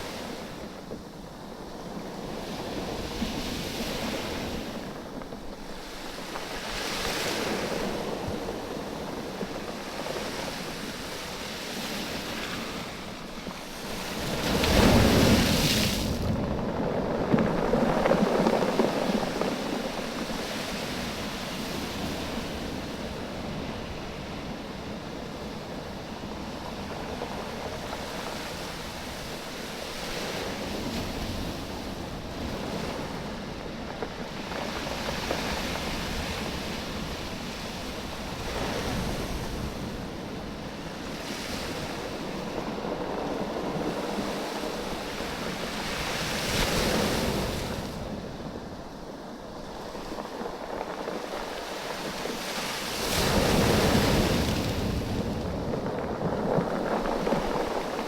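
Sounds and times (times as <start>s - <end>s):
waves washing over beach: 0.0s - 58.0s.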